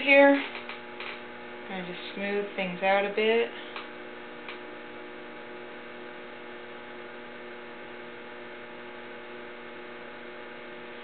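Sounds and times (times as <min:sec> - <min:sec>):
potter's wheel motor humming: 0:00.0 - 0:11.0.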